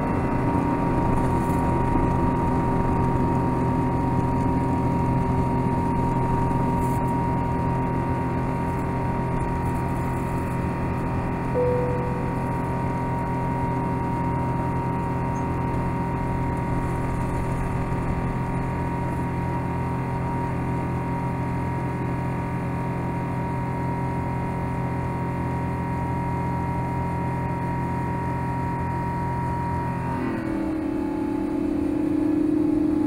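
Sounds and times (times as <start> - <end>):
jet engine cabin drone: 0.0 - 33.0
jet engine whine: 0.0 - 33.0.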